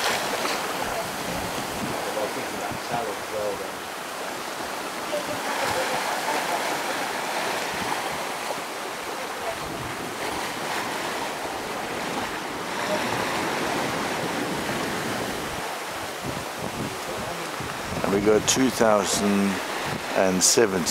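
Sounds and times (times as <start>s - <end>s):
water rushing along a hull: 0.0s - 20.9s
wind: 0.0s - 20.9s.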